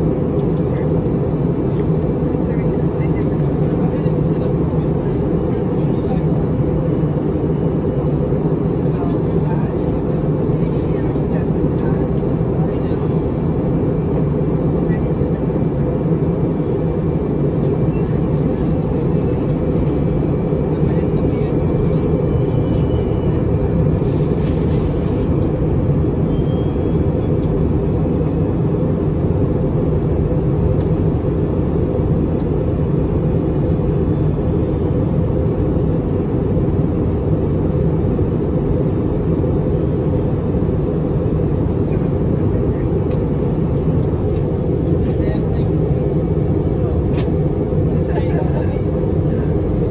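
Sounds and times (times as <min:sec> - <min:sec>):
airliner cabin noise: 0:00.0 - 0:49.9.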